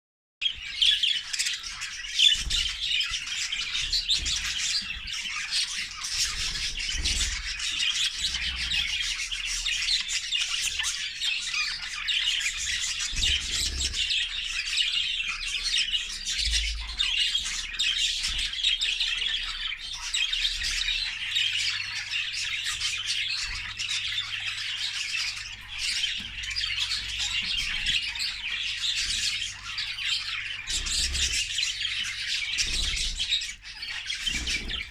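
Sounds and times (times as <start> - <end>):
budgerigars chattering and squawking: 0.4 - 34.9.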